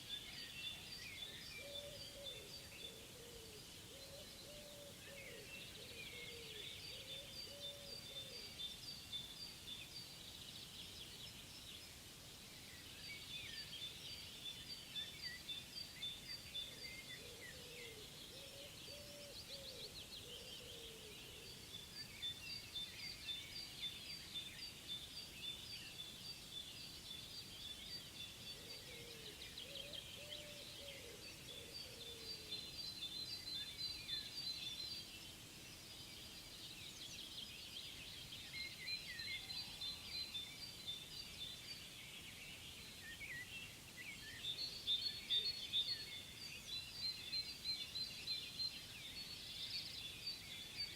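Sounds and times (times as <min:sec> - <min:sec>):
birds singing and chirping: 0:00.0 - 0:50.9.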